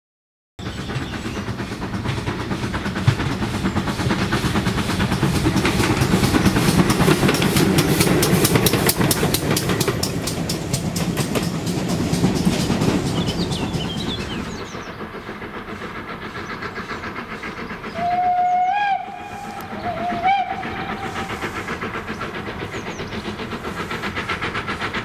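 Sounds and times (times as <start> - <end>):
steam train passing: 0.6 - 25.0.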